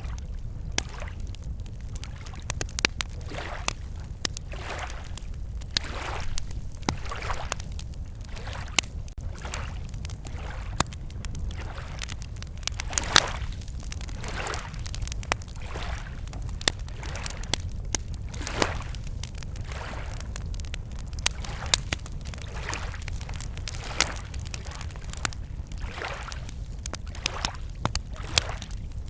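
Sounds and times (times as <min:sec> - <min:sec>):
small waves lapping on shore: 0:00.0 - 0:10.9, 0:11.5 - 0:17.7, 0:18.3 - 0:20.3, 0:21.2 - 0:28.8
campfire crackling and popping: 0:00.0 - 0:29.0.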